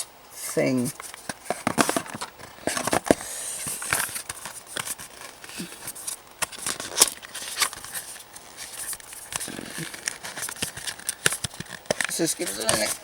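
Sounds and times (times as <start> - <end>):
paper rustling and crinkling: 0.4 - 13.0.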